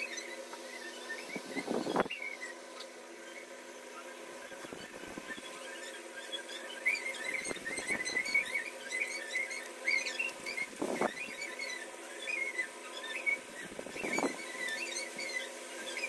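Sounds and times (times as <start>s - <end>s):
rapid high wavering squeaks: 0.0s - 16.0s.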